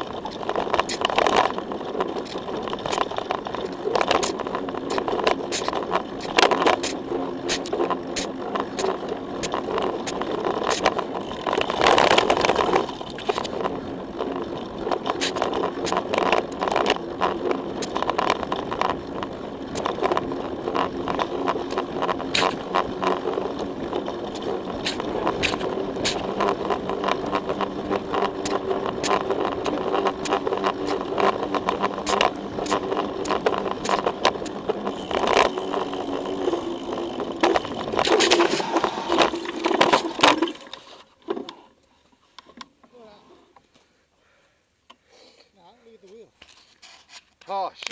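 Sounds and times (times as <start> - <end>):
tyre noise on dirt: 0.0 - 41.6
mountain bike rattling over bumps: 0.0 - 41.7.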